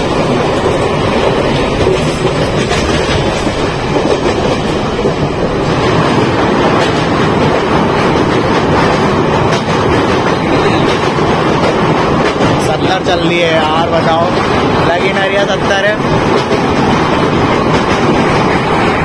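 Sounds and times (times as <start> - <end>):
train wheels on track: 0.0 - 19.0.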